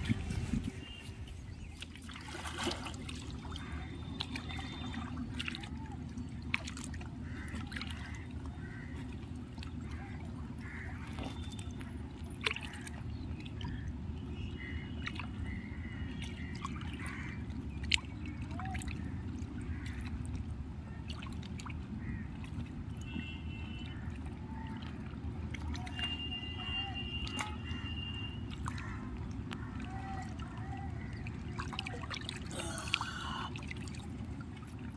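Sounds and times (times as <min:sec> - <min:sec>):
low water rush: 0:00.0 - 0:34.9
water lapping and trickling: 0:00.0 - 0:34.9.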